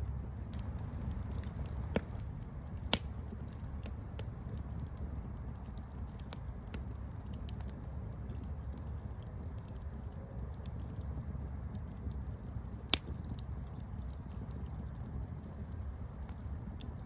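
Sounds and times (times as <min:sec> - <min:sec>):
campfire rumbling: 0:00.0 - 0:17.0
fire crackles: 0:00.0 - 0:17.0.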